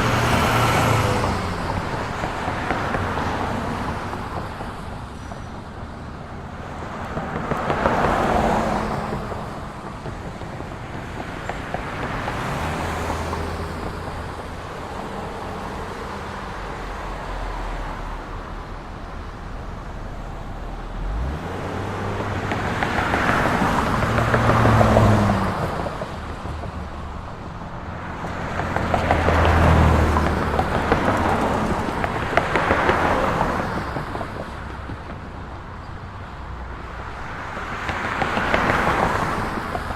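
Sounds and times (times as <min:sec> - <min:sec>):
hum of cars: 0:00.0 - 0:39.9
vehicles passing close by: 0:00.0 - 0:39.9.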